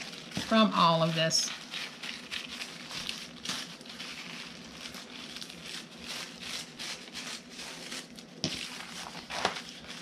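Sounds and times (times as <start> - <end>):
tissue paper tearing and rustling: 0.0 - 10.0.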